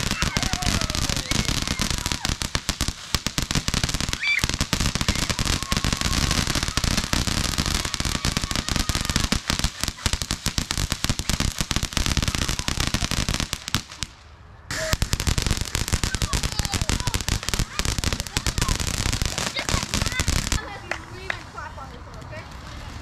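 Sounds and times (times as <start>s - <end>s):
firework fountain crackling: 0.0s - 23.0s.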